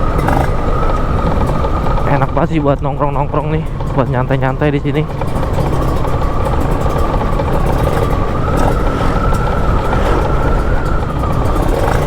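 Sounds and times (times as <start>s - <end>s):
motorcycle engine running: 0.0s - 12.0s
riding wind rush: 0.0s - 12.0s.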